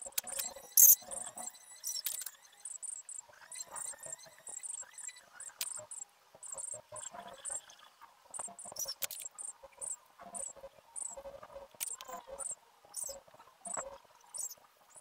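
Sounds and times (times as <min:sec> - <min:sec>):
cricket chirping: 0:00.1 - 0:07.7, 0:08.3 - 0:15.0.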